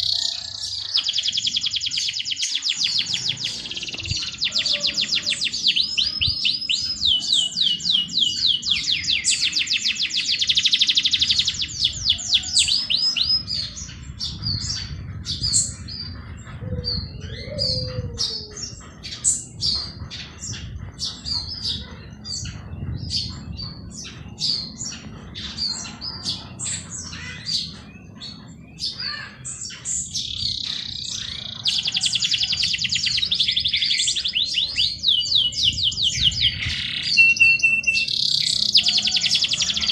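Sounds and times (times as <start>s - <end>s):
bird chirps and tweets: 0.0s - 39.9s
songbird trills: 0.0s - 39.9s.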